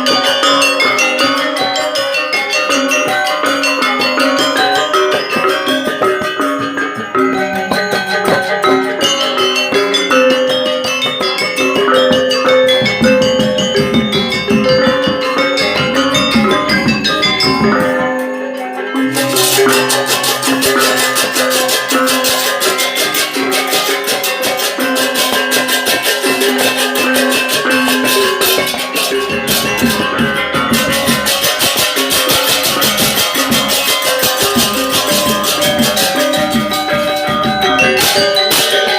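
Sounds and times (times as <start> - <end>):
dense jangling high metallophones: 0.0 - 38.9
gamelan music: 0.0 - 38.9.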